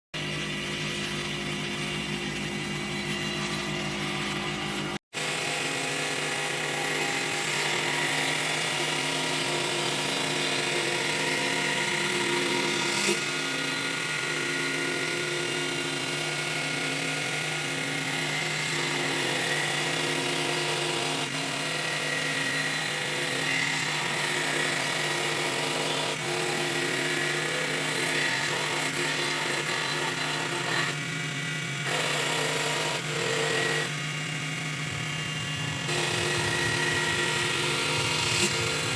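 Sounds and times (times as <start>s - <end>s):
wood lathe humming and hissing: 0.2s - 38.9s.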